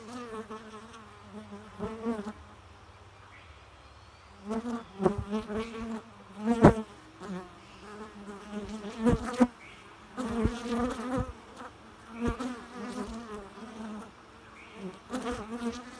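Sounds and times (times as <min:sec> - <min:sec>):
honey bees buzzing: 0:00.0 - 0:02.6, 0:04.4 - 0:15.9.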